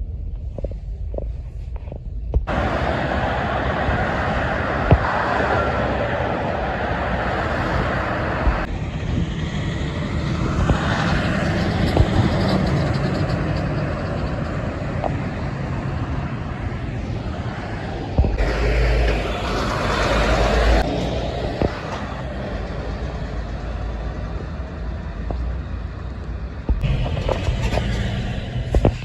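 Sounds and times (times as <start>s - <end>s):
vehicles driving past: 2.5s - 29.0s.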